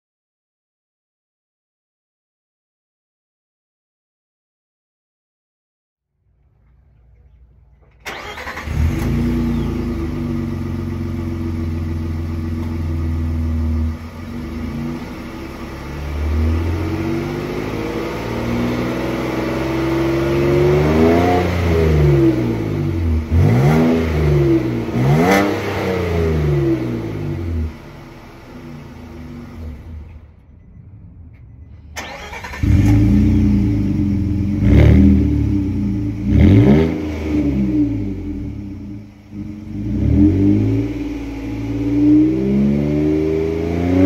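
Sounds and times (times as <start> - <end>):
car engine idling and revving: 6.4 - 44.0.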